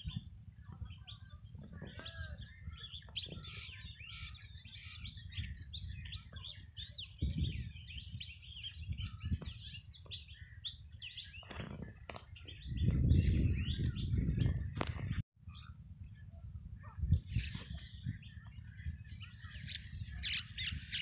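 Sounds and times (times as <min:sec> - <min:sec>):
small birds chirping: 0:00.0 - 0:16.2, 0:17.2 - 0:21.0.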